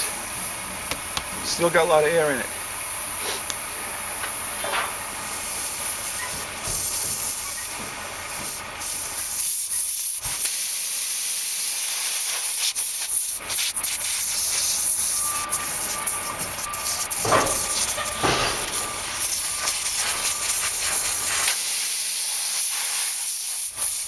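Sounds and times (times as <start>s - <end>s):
air hissing from tire: 2.9s - 24.0s.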